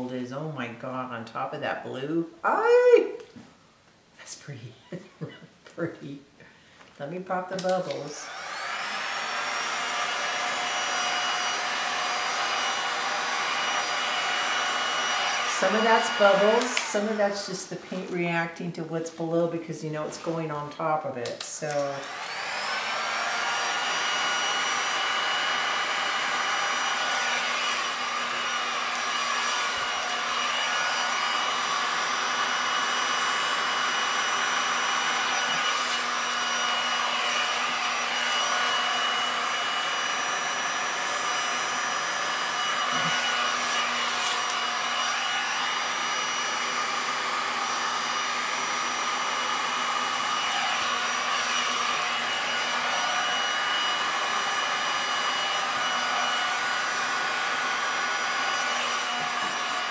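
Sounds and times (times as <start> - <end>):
electric air blower whirring: 7.5 - 19.0, 19.9 - 59.9.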